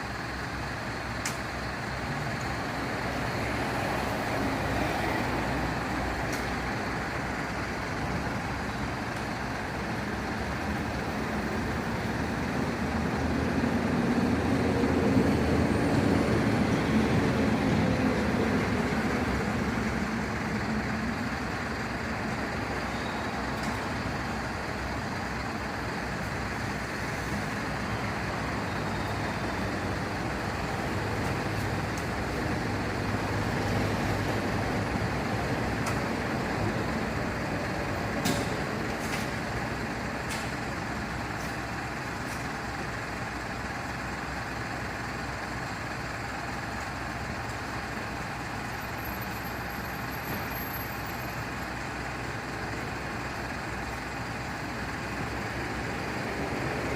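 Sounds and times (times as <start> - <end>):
heavy vehicle engine running: 0.0 - 56.9.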